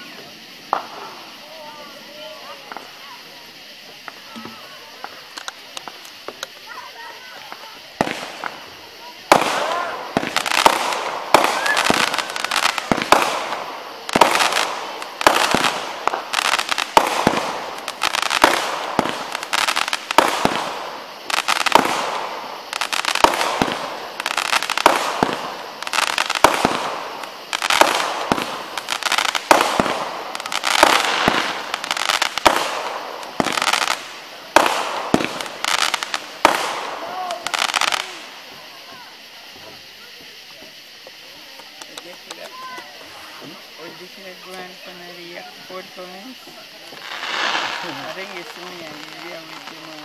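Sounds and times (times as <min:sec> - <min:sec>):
fireworks banging: 0:00.0 - 0:50.0
fireworks crackling: 0:00.0 - 0:50.0.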